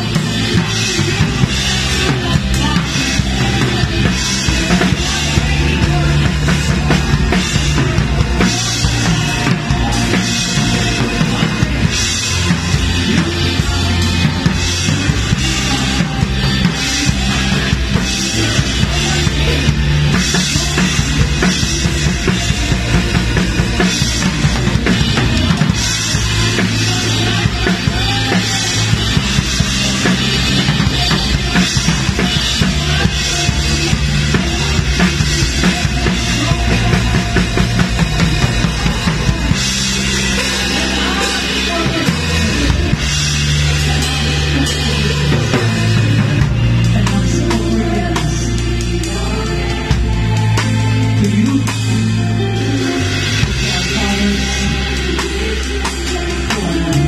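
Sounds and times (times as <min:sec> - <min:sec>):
drum kit playing: 0:00.0 - 0:57.0
live band music: 0:00.0 - 0:57.0.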